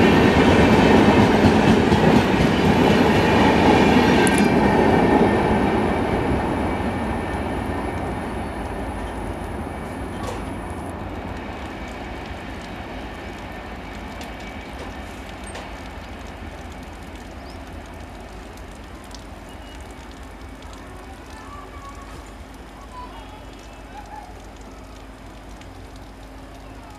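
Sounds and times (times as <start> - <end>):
passing train rumble: 0.0 - 26.9.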